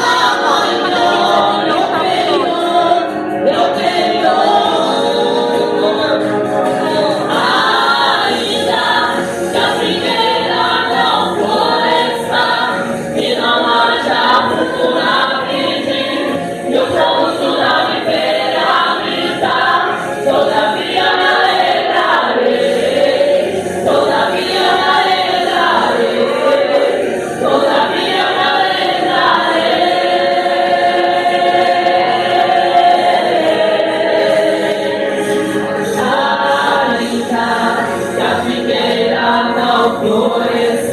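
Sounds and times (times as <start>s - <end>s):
group singing a gospel song: 0.0s - 40.9s.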